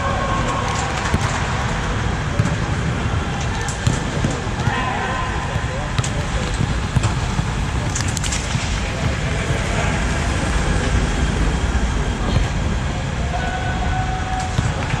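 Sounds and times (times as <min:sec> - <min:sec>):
low rumbling of air dome: 0:00.0 - 0:15.0.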